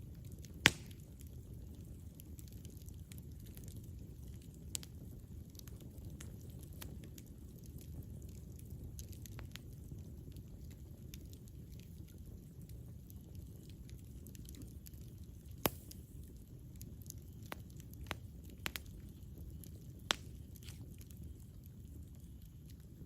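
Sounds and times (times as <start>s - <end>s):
campfire rumble: 0.0s - 23.0s
wood popping and crackling: 0.2s - 23.0s.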